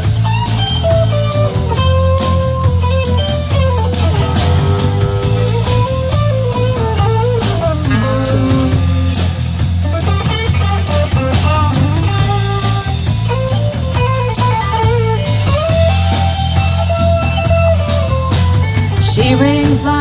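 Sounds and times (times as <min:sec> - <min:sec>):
bass: 0:00.0 - 0:20.0
drums: 0:00.0 - 0:20.0
electric guitar lead melody: 0:00.0 - 0:20.0.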